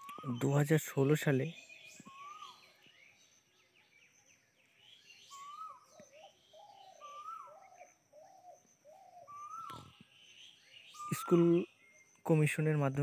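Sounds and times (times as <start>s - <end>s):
faint bird calls: 0.0s - 12.4s.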